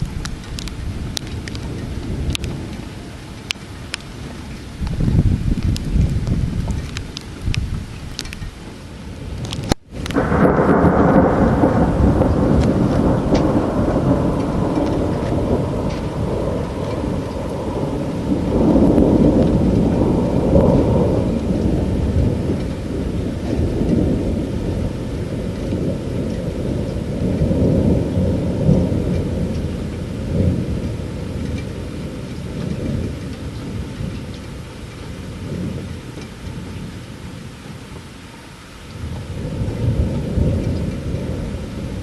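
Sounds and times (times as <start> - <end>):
rolling thunder: 0.0 - 42.0
steady rain: 0.0 - 42.0.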